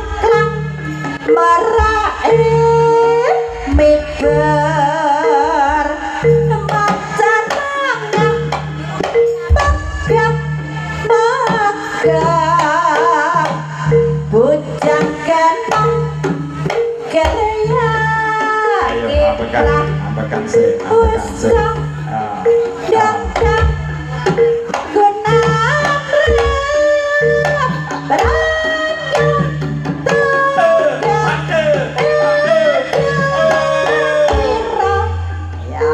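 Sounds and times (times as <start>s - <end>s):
drums beating: 0.0s - 35.9s
person singing wavering melody: 0.0s - 35.9s
repeated held note: 0.0s - 35.9s.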